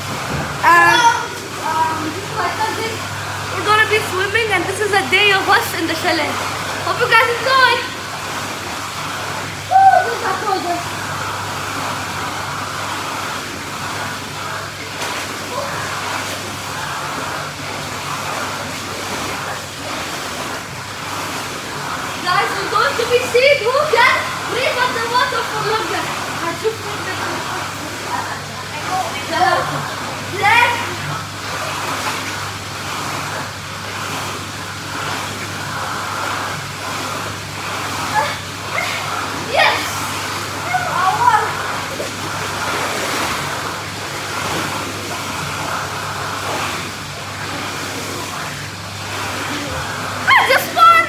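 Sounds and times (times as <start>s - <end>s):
pool water splashing: 0.0s - 51.0s.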